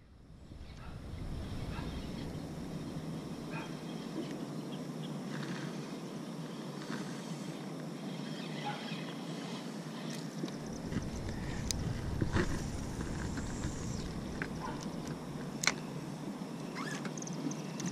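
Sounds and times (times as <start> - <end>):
steady outdoor hiss: 0.0 - 17.9.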